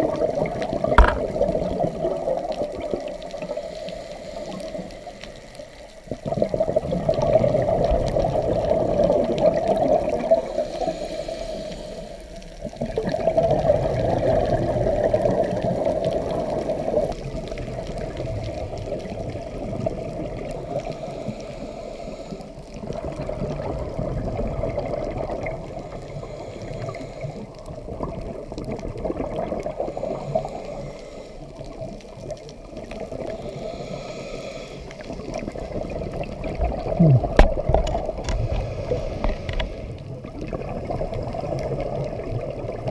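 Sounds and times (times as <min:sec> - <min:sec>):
underwater bubbles and regulator gurgling: 0:00.0 - 0:42.9.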